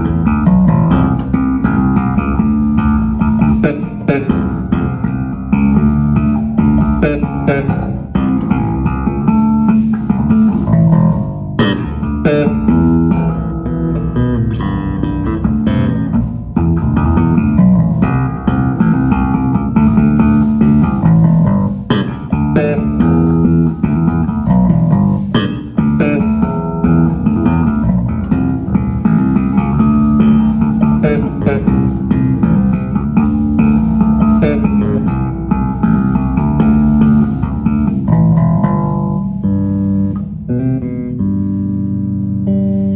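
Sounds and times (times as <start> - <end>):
electric bass playing: 0.0 - 42.9.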